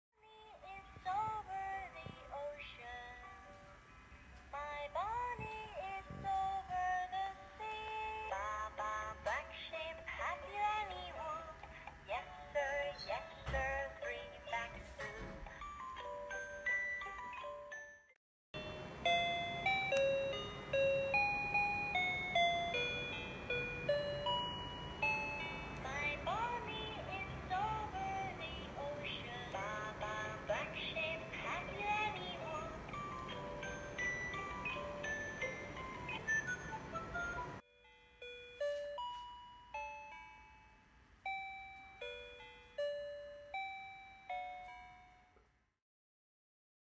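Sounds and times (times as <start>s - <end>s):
music box lullaby chimes: 0.6s - 3.7s, 4.6s - 45.5s.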